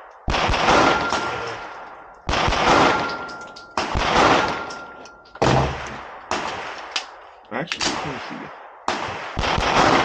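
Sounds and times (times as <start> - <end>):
pistol shots with echo: 0.0 - 7.2, 7.8 - 10.0.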